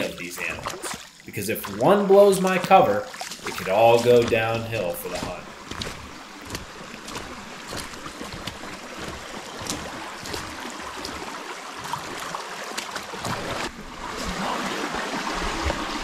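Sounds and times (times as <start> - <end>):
footsteps splashing in creek: 0.0 - 16.0
running water rushing: 0.0 - 16.0.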